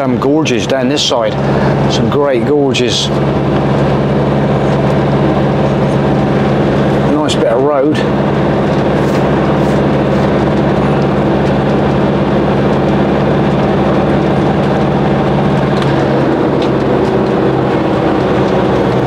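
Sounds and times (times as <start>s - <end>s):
engine drone and road noise: 0.0s - 19.0s.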